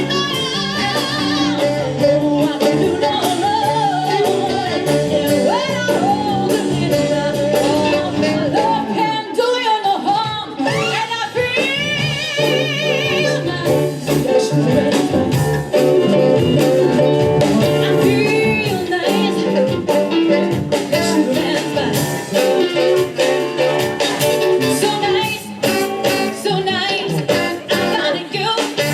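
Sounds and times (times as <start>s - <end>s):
person singing with vibrato: 0.0s - 28.9s
soul band playing: 0.0s - 28.9s.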